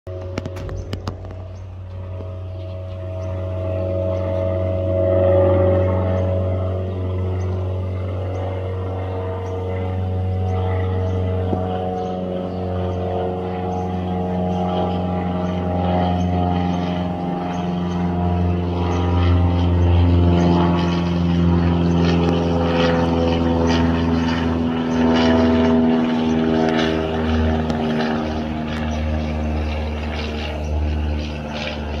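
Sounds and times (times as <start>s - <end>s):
propeller plane droning overhead: 0.1s - 32.0s.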